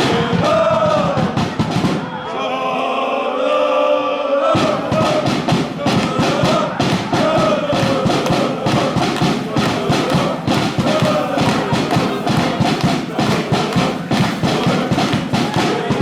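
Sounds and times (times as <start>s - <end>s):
drum beating steady rhythm: 0.0s - 2.2s, 4.6s - 16.0s
crowd chanting in song: 0.0s - 16.0s.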